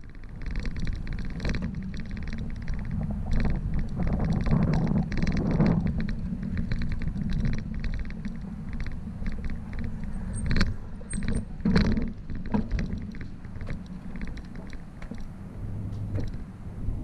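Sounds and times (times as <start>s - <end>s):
bicycle rattling: 0.0s - 17.0s
bicycle tyres rumbling on road: 0.0s - 17.0s.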